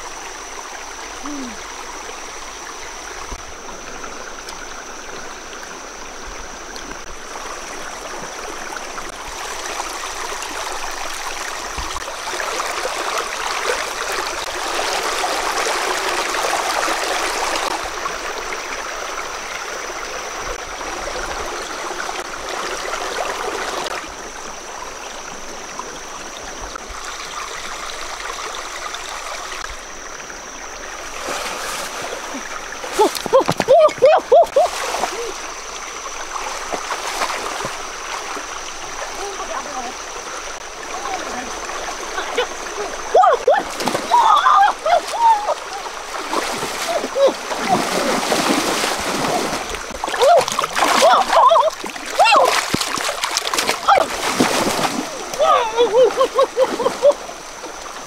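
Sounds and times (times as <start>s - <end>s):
stream gurgling over stones: 0.0s - 58.0s.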